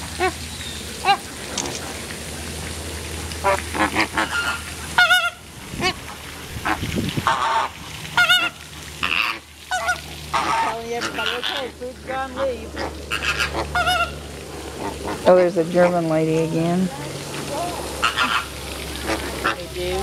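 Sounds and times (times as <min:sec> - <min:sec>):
flamingos honking: 0:00.0 - 0:02.0, 0:03.1 - 0:20.0.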